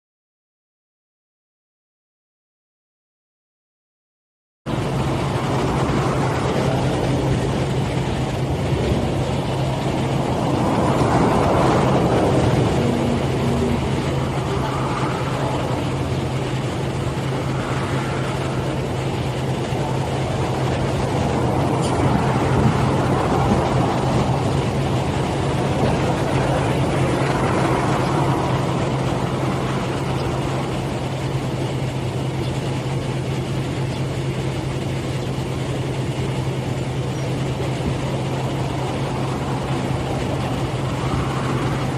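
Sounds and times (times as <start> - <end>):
road traffic passing: 4.7 - 41.9
steady low hum: 4.7 - 41.9.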